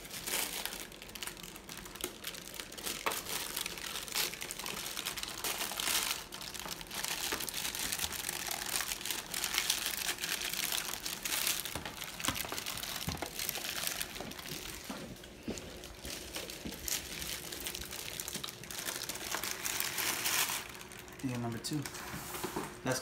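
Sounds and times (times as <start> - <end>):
sharp paper crackles: 0.0 - 22.0
paper crinkling and rustling: 0.0 - 22.9.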